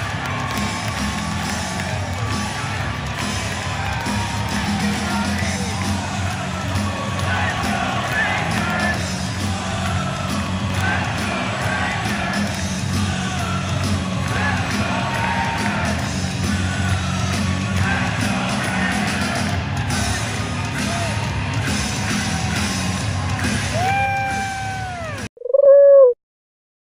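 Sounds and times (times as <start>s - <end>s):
music over loudspeakers: 0.0s - 25.0s
crowd cheering and singing: 0.0s - 25.3s.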